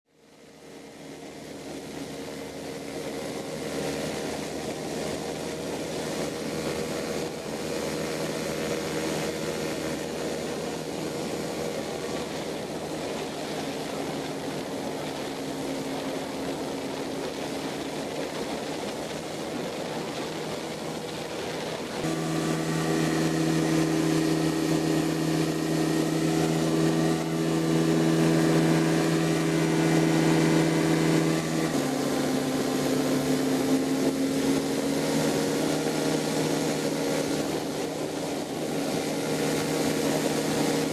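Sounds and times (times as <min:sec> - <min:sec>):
propeller engine drone: 0:00.1 - 0:40.9.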